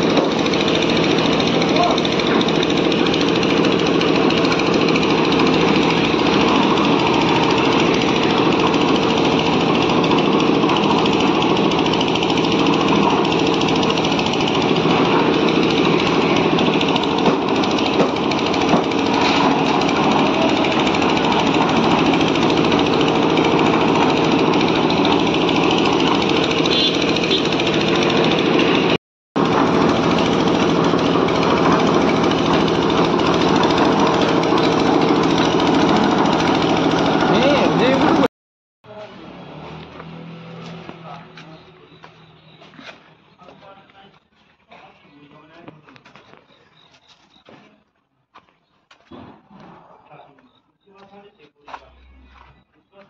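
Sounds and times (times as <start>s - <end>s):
construction machine chattering: 0.0s - 39.4s, 40.0s - 47.9s.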